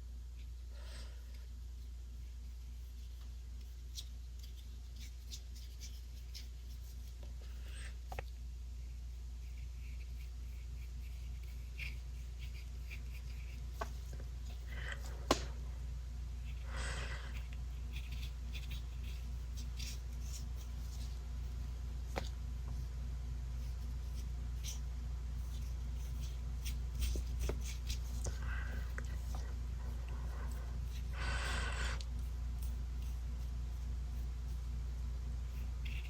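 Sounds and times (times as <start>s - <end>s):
steady low hum: 0.0s - 36.0s
paintbrush brushing on paper: 1.7s - 8.0s, 8.7s - 36.0s.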